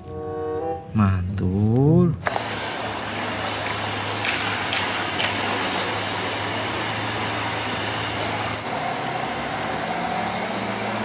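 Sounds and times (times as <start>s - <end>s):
higher steady hum: 0.0s - 9.7s
sports car engine humming: 0.0s - 11.0s
street noise: 0.0s - 11.0s.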